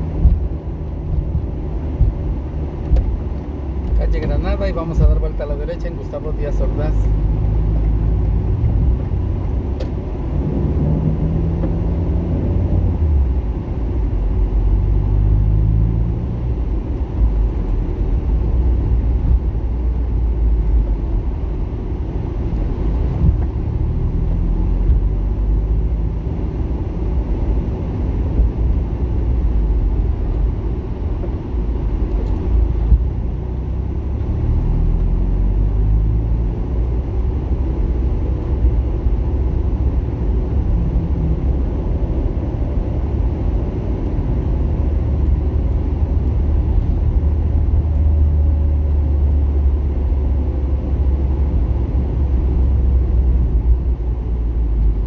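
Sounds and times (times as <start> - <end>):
vehicle driving on street: 0.0 - 55.0.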